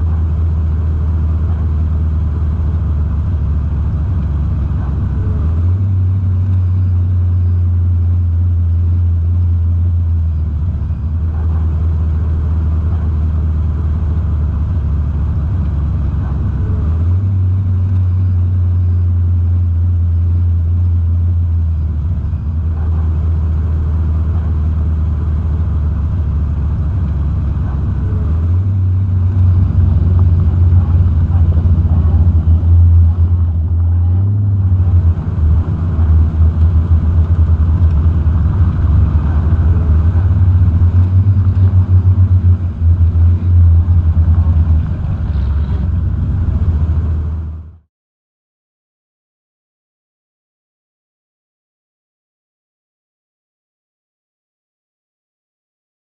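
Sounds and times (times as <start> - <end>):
car engine running deep: 0.0 - 47.9.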